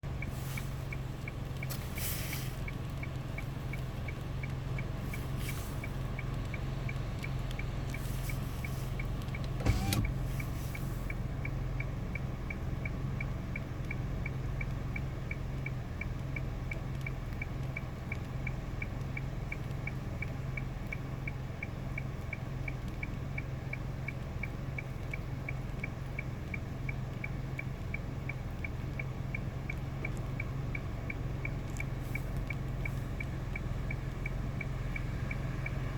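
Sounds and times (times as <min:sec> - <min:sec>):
faint repeating tick: 0:00.1 - 0:35.9.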